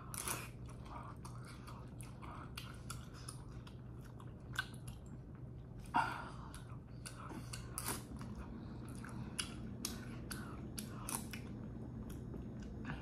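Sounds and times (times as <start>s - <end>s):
low steady hum: 0.0s - 13.0s
wet chewing clicks and crunches: 0.0s - 13.0s.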